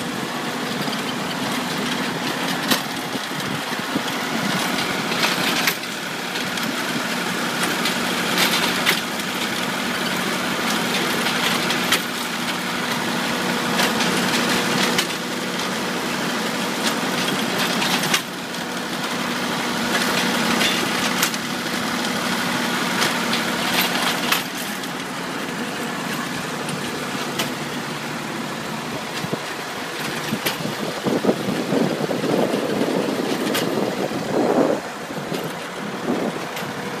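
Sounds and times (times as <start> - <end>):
harvester machinery clattering: 0.0 - 37.0
tractor diesel engine running: 0.0 - 37.0.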